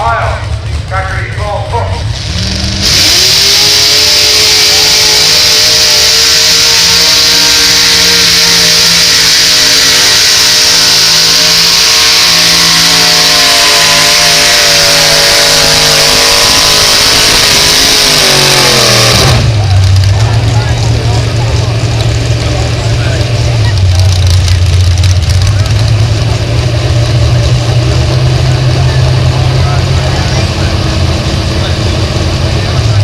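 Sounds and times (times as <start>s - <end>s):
engine roaring under heavy load: 0.0s - 33.0s.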